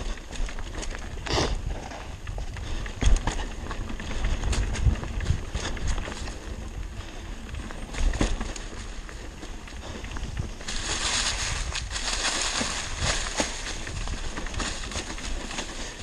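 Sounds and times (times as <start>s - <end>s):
bike knocks and rattles: 0.0s - 16.0s
bike tyres rolling over dirt: 0.0s - 16.0s.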